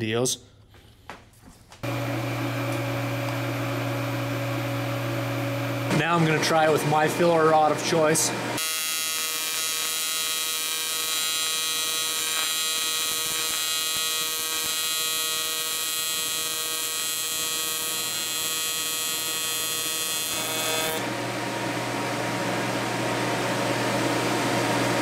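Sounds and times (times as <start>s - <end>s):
welding arc buzzing: 1.8s - 24.2s.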